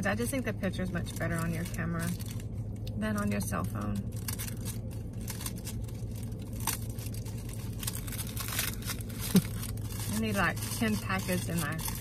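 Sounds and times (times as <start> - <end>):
steady low hum: 0.0 - 12.0
plastic packet crinkling and tearing: 0.9 - 3.0, 3.6 - 12.0.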